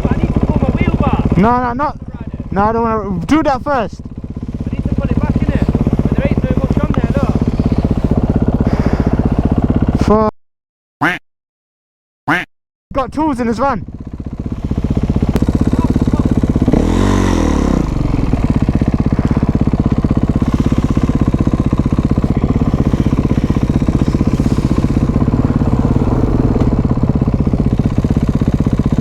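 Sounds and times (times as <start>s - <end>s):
dirt bike engine idling: 0.0s - 10.2s, 13.0s - 29.0s
dirt bike engine revving: 0.0s - 10.2s, 13.8s - 29.0s.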